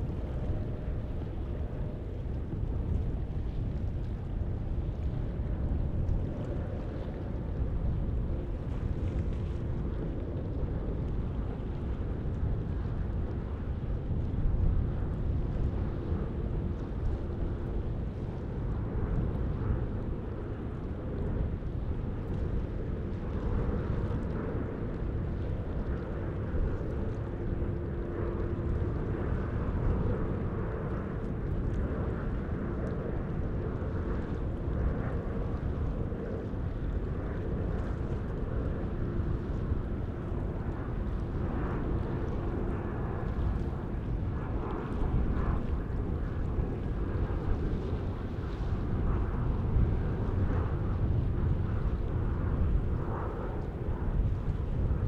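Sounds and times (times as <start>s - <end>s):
jet engines rumbling with whine: 0.0s - 55.0s.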